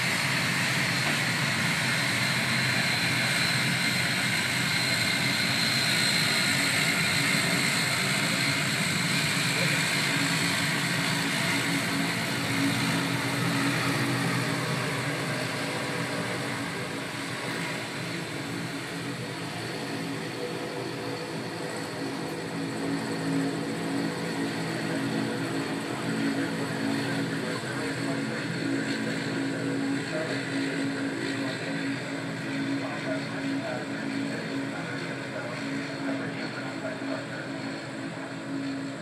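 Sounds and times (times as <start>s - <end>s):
propeller plane engines droning: 0.0s - 39.0s.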